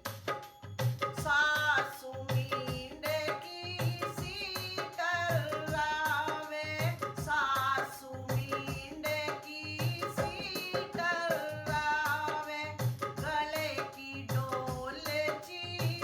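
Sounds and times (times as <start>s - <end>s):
hand drum rhythm: 0.0s - 16.0s
woman singing folk song: 1.1s - 16.0s.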